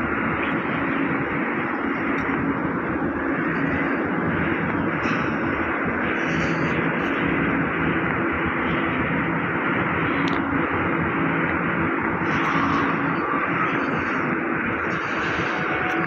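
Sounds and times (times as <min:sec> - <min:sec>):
low hum of machinery: 0:00.0 - 0:16.0.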